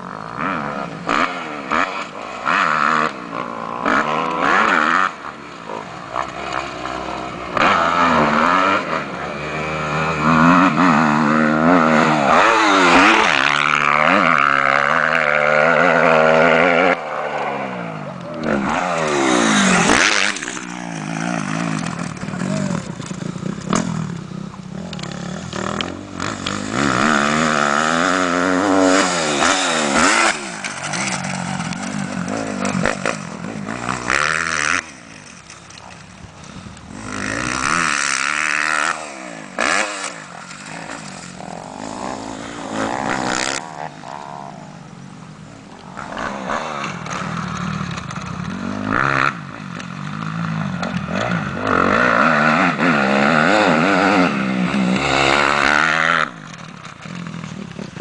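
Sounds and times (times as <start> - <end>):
dirt bikes revving and racing past: 0.0 - 58.0.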